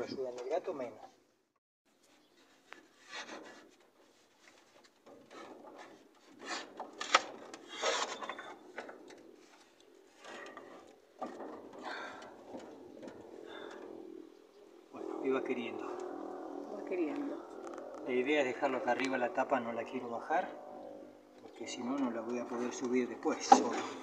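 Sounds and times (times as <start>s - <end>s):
metal scraping on wooden boards: 2.0s - 19.8s, 20.4s - 24.0s.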